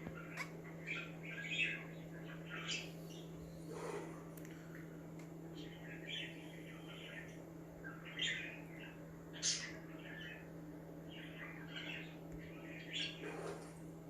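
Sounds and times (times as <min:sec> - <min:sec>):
budgies chirping and chattering: 0:00.0 - 0:04.2, 0:05.5 - 0:13.8
steady low hum: 0:00.0 - 0:14.0.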